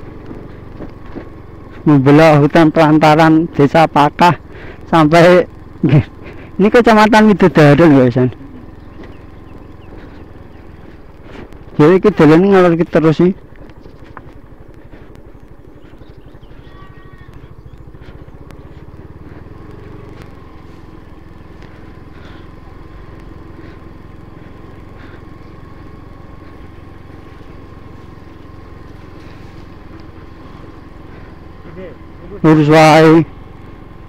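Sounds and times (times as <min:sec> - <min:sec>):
faint steady whine: 0:00.0 - 0:34.0
scooter engine cruising: 0:00.0 - 0:34.0.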